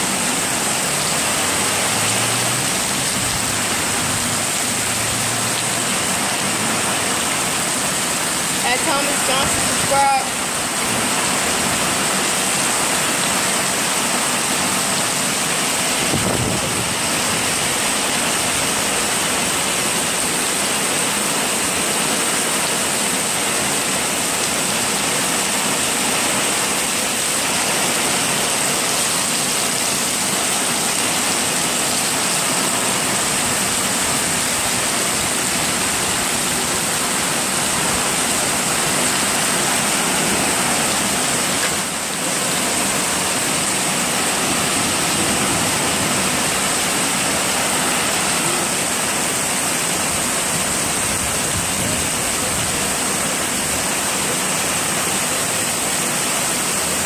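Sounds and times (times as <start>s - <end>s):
heavy rain on a flooded street: 0.0s - 57.0s
water streaming off an awning: 0.0s - 57.0s.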